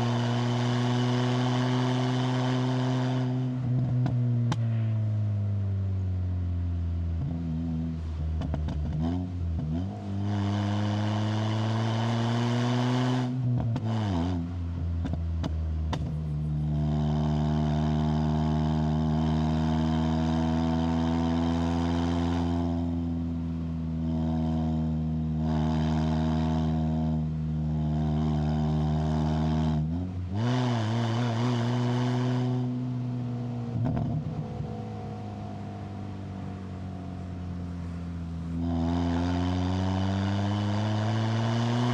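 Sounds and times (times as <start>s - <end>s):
car engine accelerating uphill: 0.0s - 41.9s.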